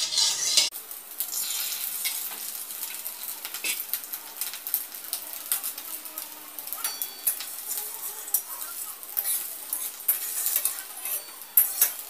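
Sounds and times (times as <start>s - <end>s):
bread sizzling in oil: 0.0s - 12.0s.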